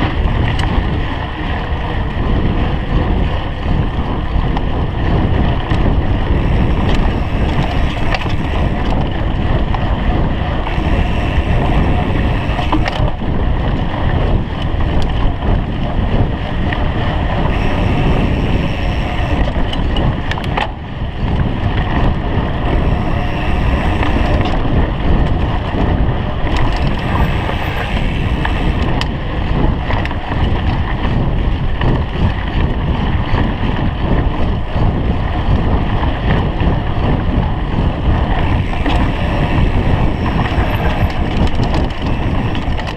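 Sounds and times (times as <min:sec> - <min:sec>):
mountain bike rumbling and rattling: 0:00.0 - 0:42.9
wind rushing over microphone: 0:00.0 - 0:42.9.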